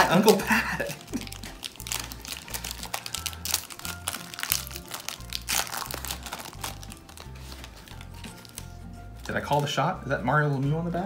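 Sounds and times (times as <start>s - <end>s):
foil wrapper crinkling and tearing: 0.0s - 9.8s
background music with bass line: 0.0s - 11.0s.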